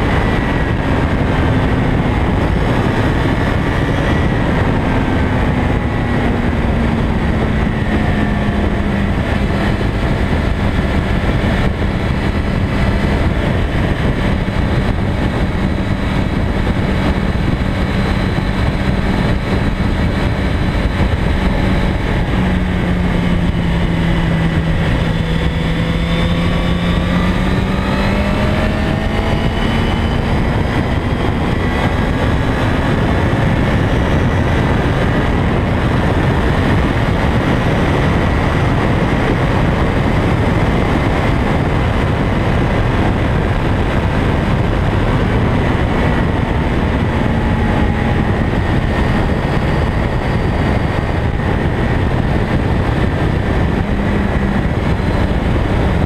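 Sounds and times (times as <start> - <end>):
heavy wind rush: 0.0 - 56.0
motorcycle engine running: 0.0 - 56.0.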